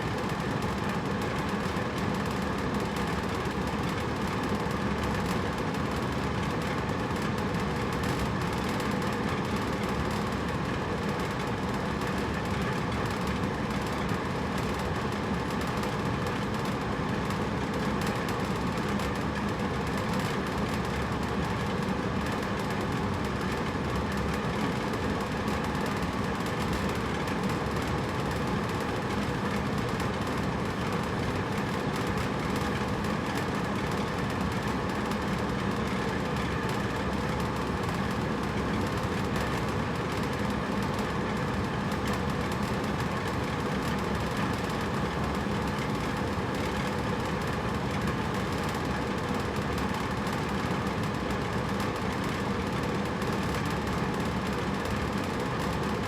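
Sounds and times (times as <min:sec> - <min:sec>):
air conditioner running: 0:00.0 - 0:56.0.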